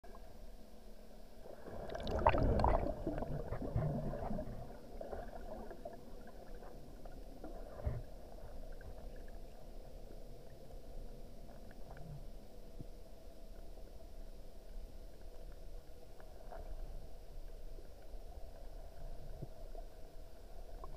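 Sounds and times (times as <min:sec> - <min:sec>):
underwater bubbling: 0:00.1 - 0:20.9.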